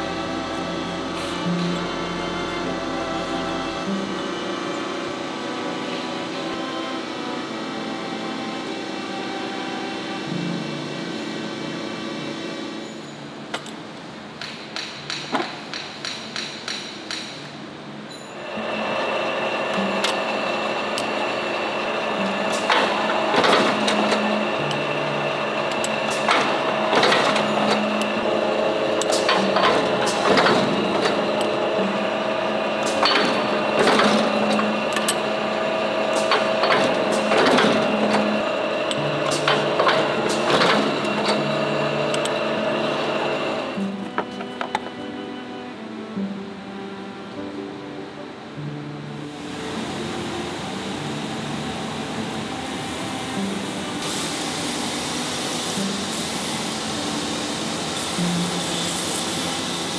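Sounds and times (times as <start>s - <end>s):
machine humming and whining: 0.0s - 16.5s, 17.1s - 59.9s.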